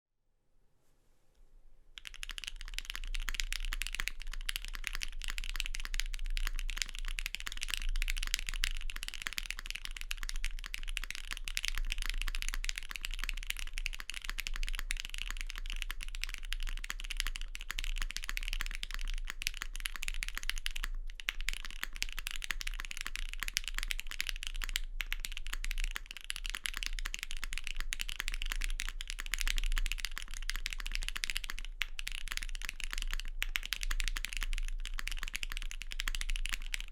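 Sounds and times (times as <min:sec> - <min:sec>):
mechanical keyboard typing: 0:02.0 - 0:36.9.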